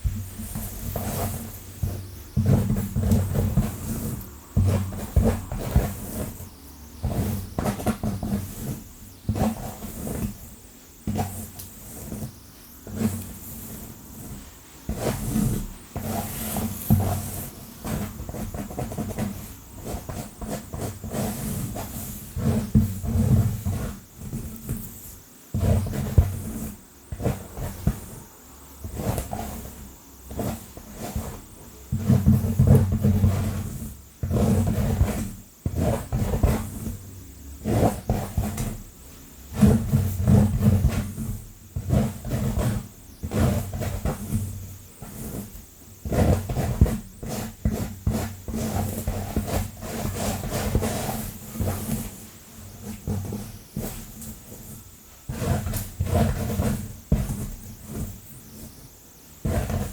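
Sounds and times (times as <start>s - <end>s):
fingernails scratching through hair: 0.0s - 38.9s, 39.5s - 59.9s.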